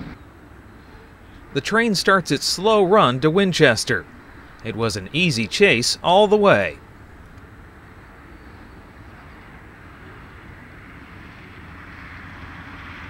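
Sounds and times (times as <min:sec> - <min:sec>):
diesel locomotive low drone: 0:00.0 - 0:13.0.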